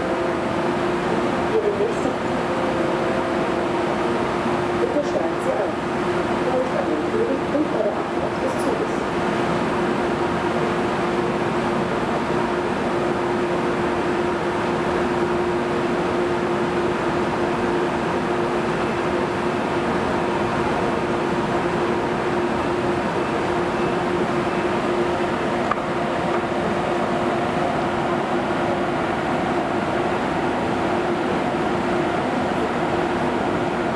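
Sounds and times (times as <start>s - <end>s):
electric train humming: 0.0s - 33.9s.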